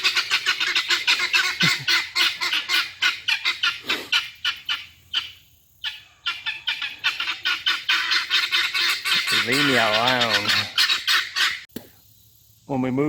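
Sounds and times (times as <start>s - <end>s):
guinea fowl calling: 0.0s - 11.7s.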